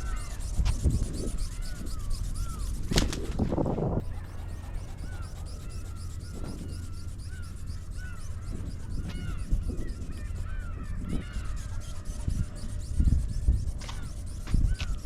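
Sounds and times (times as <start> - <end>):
bird calling: 0.0 - 15.0
wind buffeting microphone: 0.0 - 15.0.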